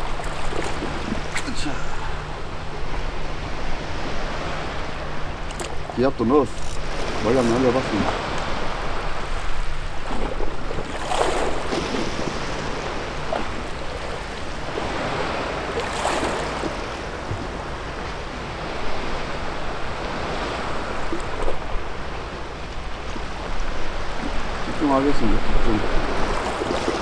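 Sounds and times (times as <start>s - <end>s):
sea waves washing onto beach: 0.0s - 27.0s.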